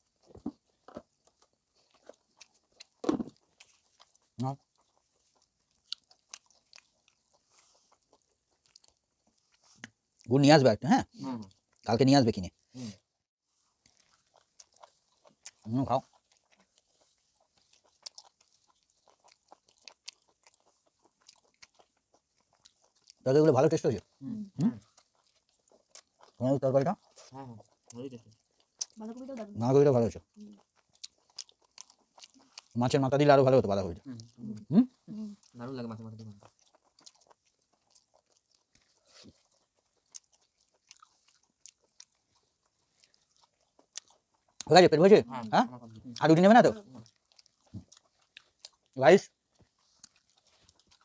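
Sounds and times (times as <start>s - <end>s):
soft chewing: 0.0s - 10.5s, 11.2s - 51.0s.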